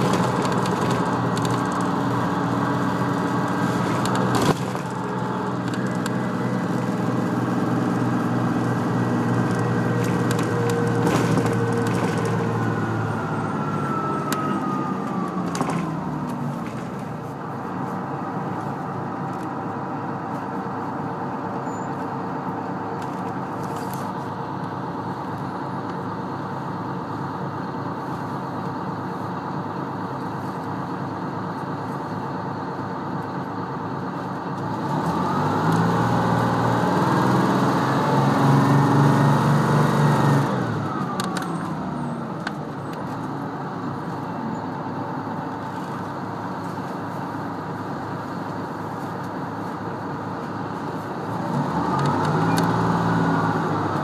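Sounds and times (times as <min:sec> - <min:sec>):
bus diesel engine and transmission whine: 0:00.0 - 0:54.0.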